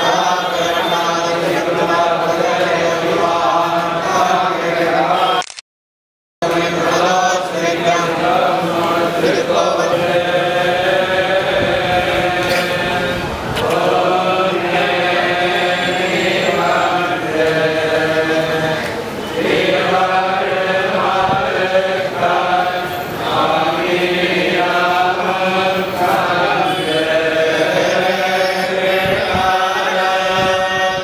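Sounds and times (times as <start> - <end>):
men chanting hymns in unison: 0.0 - 5.4, 6.4 - 31.0.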